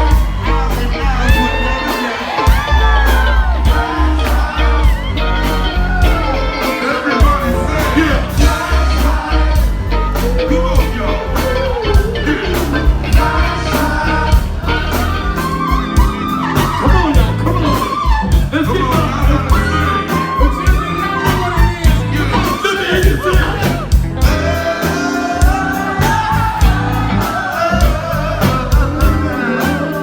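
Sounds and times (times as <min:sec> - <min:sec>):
heavy bass line: 0:00.0 - 0:30.0
live funk band playing: 0:00.0 - 0:30.0
steady drum beat: 0:00.0 - 0:30.0
sung vocals: 0:00.0 - 0:30.0.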